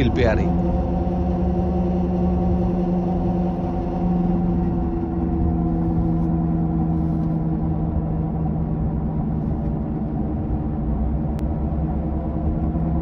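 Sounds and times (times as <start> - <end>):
wheel bearing droning hum: 0.0 - 13.0.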